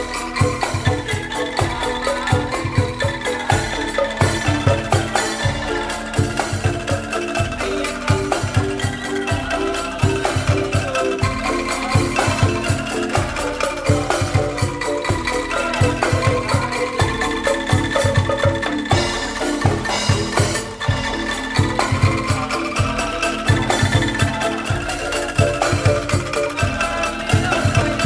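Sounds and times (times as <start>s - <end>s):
bamboo instruments melody: 0.0s - 28.0s
drums keeping a beat: 0.0s - 28.0s.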